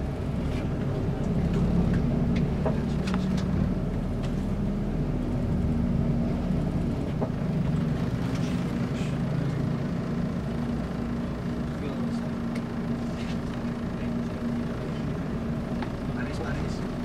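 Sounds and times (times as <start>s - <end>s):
bus engine droning: 0.0s - 17.0s.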